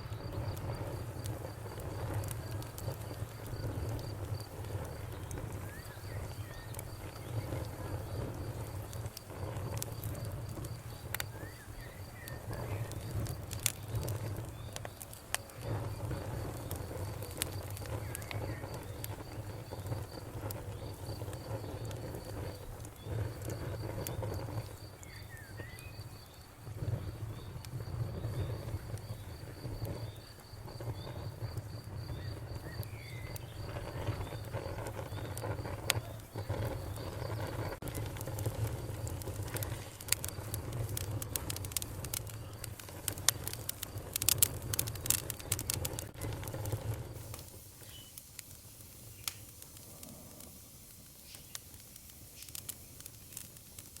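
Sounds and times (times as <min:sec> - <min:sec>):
cricket chirping: 0:00.0 - 0:46.3
wood fire crackling: 0:00.0 - 0:54.0.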